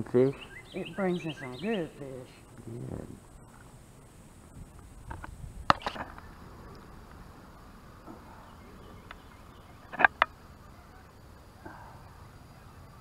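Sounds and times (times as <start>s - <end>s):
quiet outdoor background: 0.0s - 13.0s.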